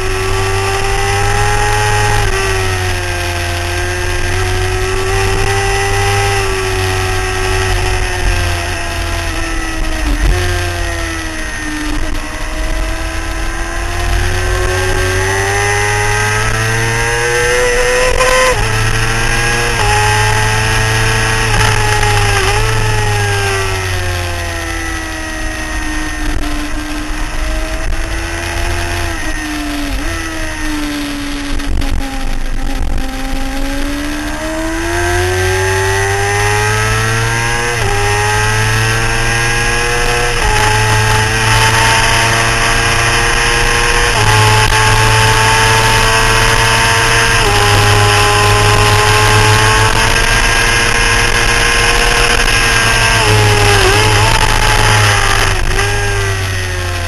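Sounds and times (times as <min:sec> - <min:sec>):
motorcycle engine at racing speed: 0:00.0 - 0:57.0
wind rushing over microphone: 0:00.0 - 0:57.0.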